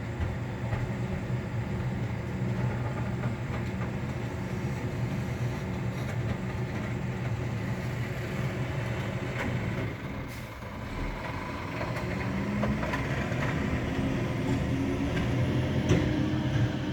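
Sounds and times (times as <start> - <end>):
garbage truck engine drone: 0.0 - 16.9.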